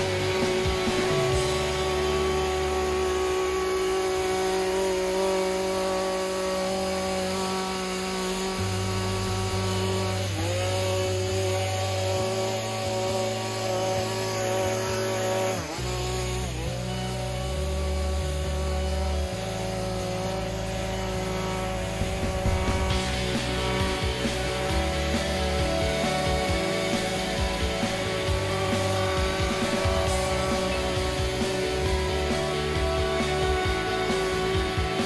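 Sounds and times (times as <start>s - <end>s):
petrol hedge trimmer running: 0.0s - 35.0s.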